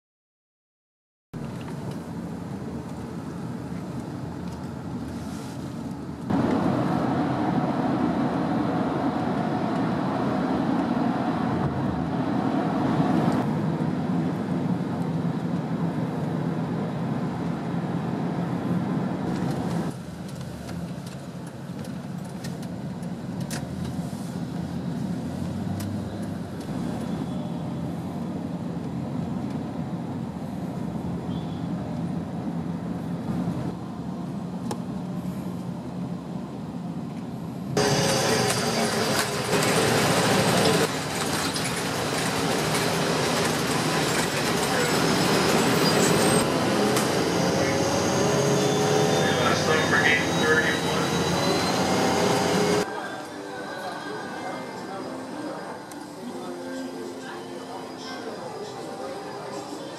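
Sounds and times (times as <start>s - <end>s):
car road and engine noise: 1.4s - 53.6s.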